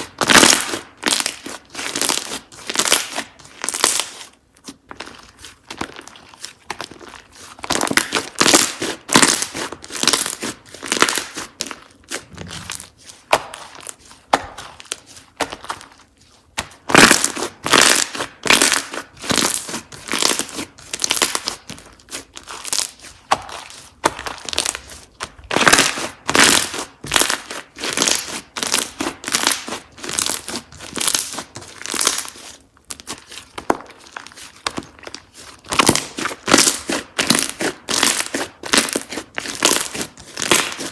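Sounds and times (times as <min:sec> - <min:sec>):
slime squishing and crackling: 0:00.0 - 0:40.9.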